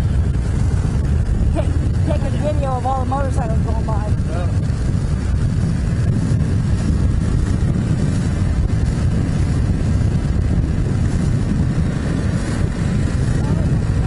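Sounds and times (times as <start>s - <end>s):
vehicle and road noise rumble: 0.0s - 14.0s.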